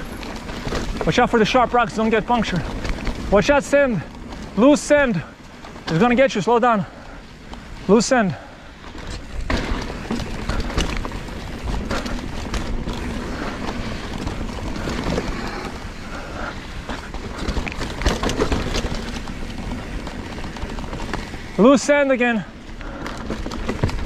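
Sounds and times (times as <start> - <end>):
bike knocks and rattles: 0.0 - 24.0
bike tyres rolling through sand: 0.0 - 24.0.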